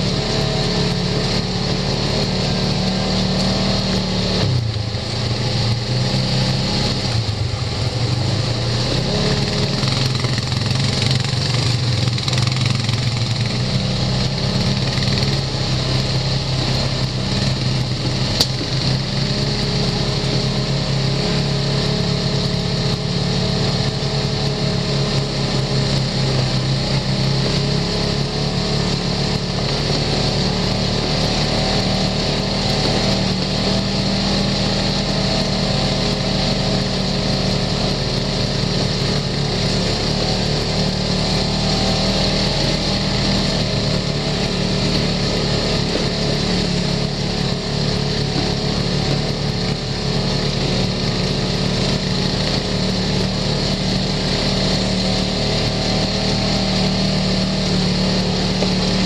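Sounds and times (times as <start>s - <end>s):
utility vehicle engine droning: 0.0s - 59.0s.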